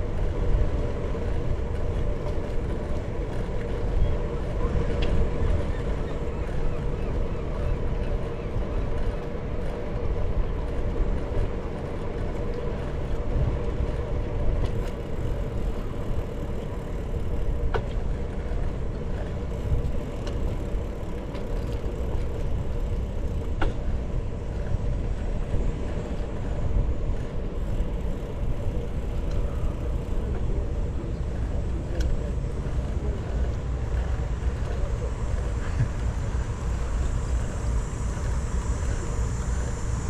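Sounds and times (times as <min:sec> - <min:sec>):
bicycle rolling noise: 0:00.0 - 0:40.0.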